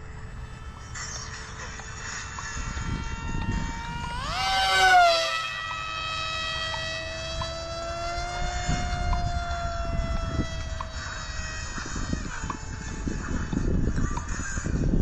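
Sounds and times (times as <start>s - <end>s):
model airplane motor whining: 0.0s - 15.0s.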